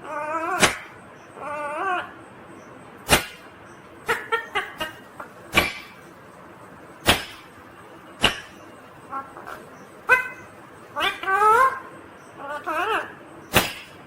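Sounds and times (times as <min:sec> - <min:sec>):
parrot calling: 0:00.0 - 0:06.1, 0:07.0 - 0:14.0.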